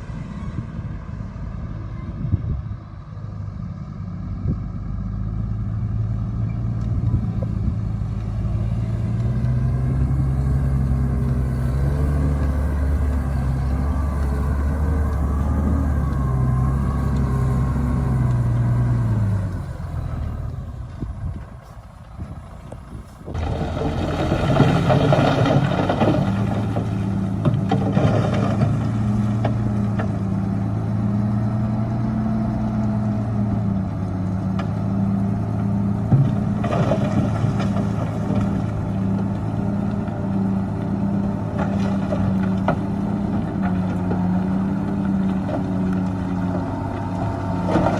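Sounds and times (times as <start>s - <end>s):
diesel earthmoving machinery running: 0.0s - 47.9s.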